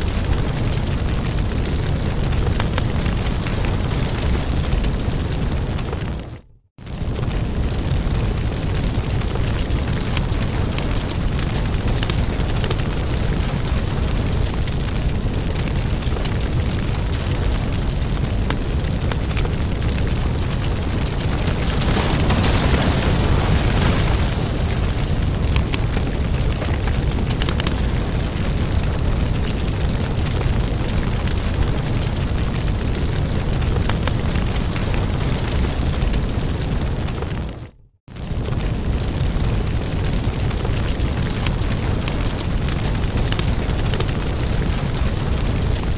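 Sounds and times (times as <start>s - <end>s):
fire crackling in a fireplace: 0.0s - 45.9s.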